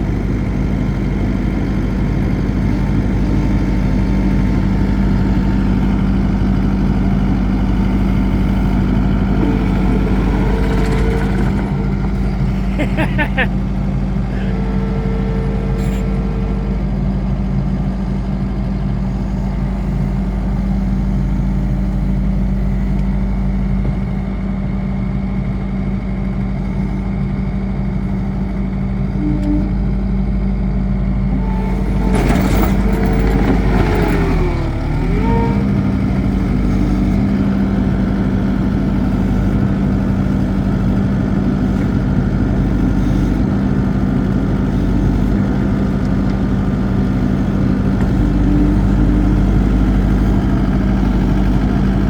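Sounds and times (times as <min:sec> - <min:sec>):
skid steer engine at high idle: 0:00.0 - 0:52.0.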